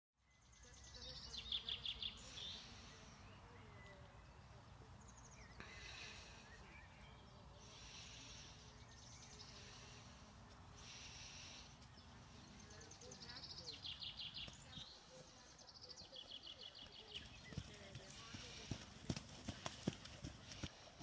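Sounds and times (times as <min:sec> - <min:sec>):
birds singing: 0:00.2 - 0:20.7.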